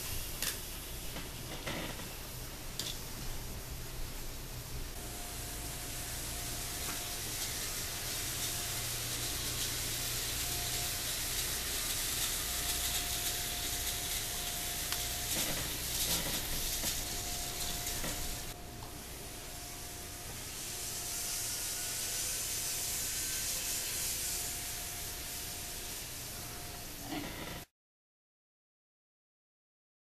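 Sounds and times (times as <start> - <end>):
model trains hissing on track: 0.0 - 27.6
faint high whine: 0.0 - 27.7.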